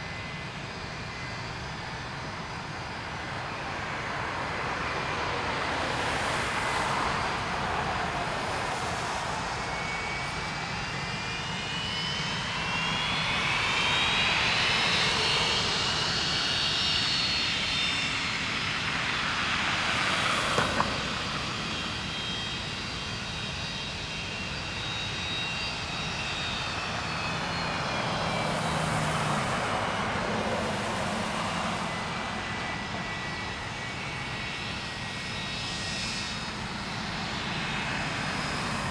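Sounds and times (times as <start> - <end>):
jet engine rumble and whine: 0.0 - 38.9.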